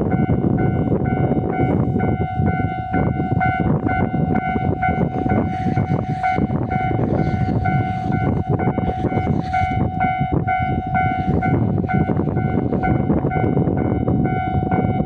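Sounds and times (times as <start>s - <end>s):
pulsing alarm tone: 0.0s - 15.0s
railway rumble: 0.0s - 15.0s.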